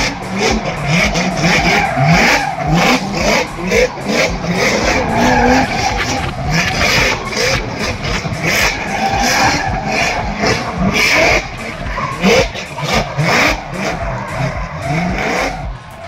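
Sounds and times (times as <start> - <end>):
car engine revving: 0.0 - 16.0
tyres screeching: 0.0 - 16.0.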